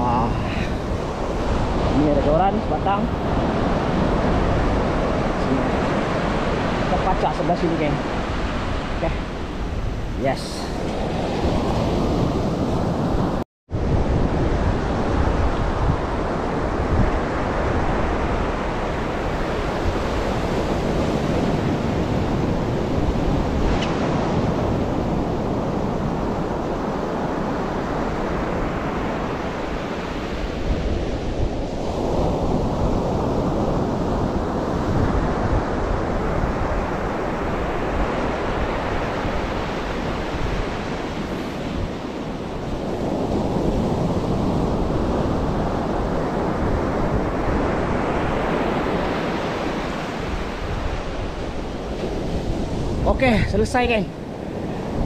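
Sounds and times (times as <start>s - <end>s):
ocean surf on beach: 0.0s - 55.0s
wind buffeting microphone: 0.0s - 55.0s.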